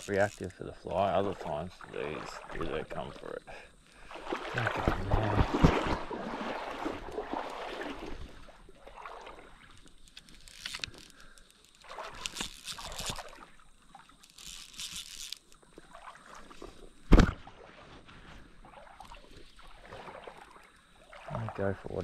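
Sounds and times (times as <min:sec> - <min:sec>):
creek water splashing: 0:00.0 - 0:22.0.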